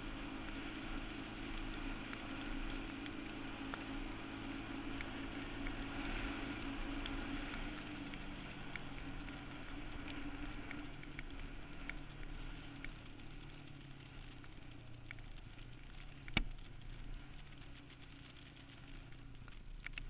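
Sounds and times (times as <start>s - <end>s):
light ticks: 0.1s - 20.0s.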